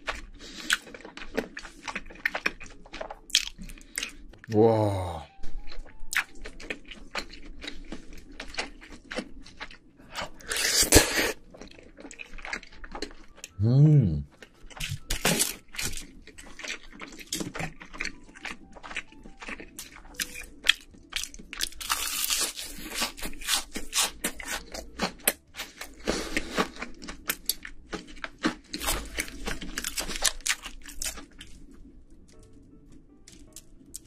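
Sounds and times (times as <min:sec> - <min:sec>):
chewing and crunching food: 0:00.0 - 0:13.6, 0:14.2 - 0:34.0.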